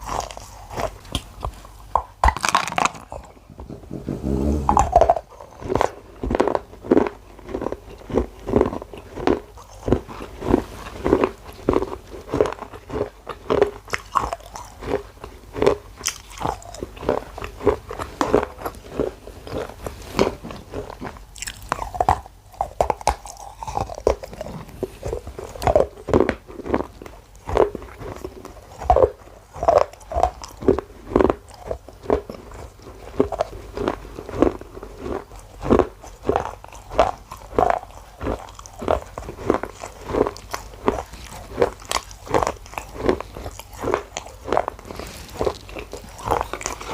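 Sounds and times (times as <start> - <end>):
crunching bites and chewing: 0.0 - 46.9.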